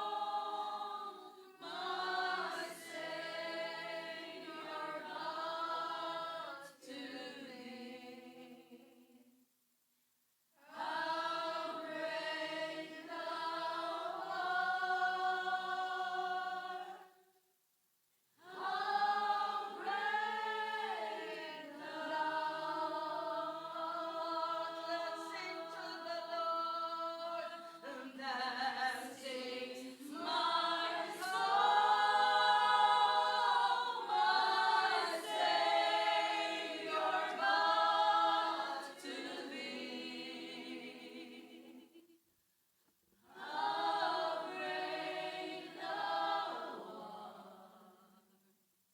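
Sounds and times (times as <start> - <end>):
group of voices singing: 0.0 - 9.0, 10.6 - 17.2, 18.4 - 42.0, 43.2 - 48.2.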